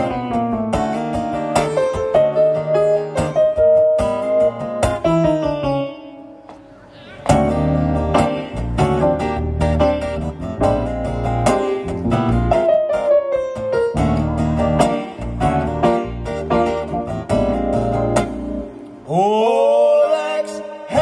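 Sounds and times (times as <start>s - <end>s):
strummed acoustic guitar: 0.0s - 6.0s, 7.0s - 19.2s
keyboard piano sound: 0.0s - 19.1s.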